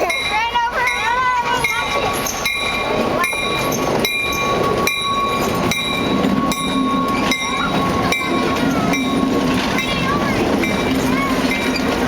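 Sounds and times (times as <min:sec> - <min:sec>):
train wheels clacking over rail joints: 0:00.0 - 0:12.0
high-pitched ring: 0:00.1 - 0:10.1.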